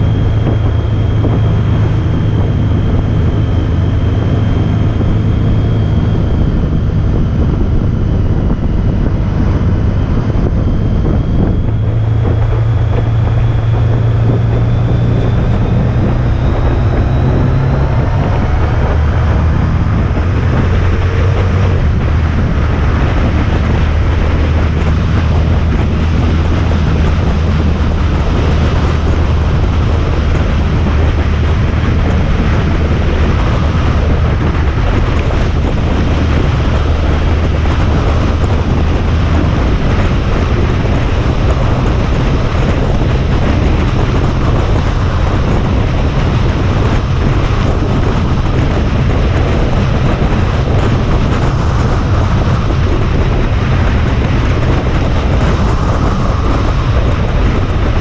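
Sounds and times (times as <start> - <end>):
motorcycle engine drone: 0.0 - 58.0
wind rushing over microphone: 0.0 - 58.0.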